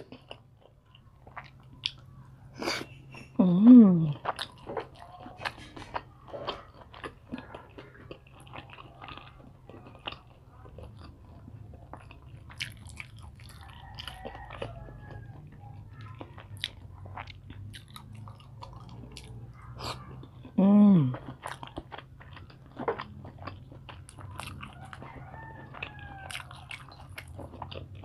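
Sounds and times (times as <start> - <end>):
person chewing and biting: 0.0 - 3.0, 4.2 - 28.0.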